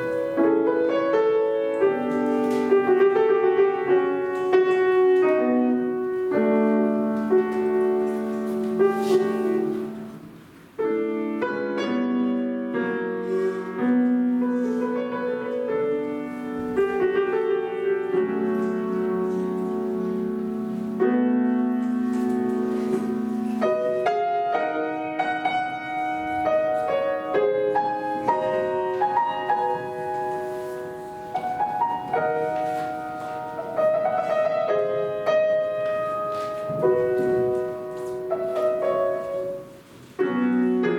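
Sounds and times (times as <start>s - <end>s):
classical piano piece: 0.0s - 40.9s.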